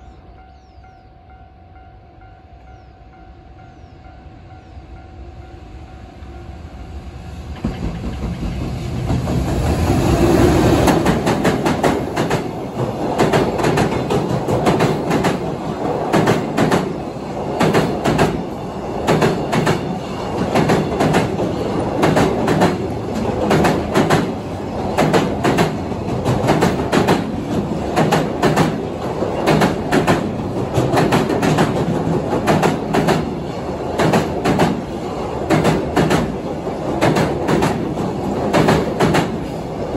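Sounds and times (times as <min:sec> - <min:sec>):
train passing: 0:00.0 - 0:39.9
train wheels clattering over rail joints: 0:07.5 - 0:39.7.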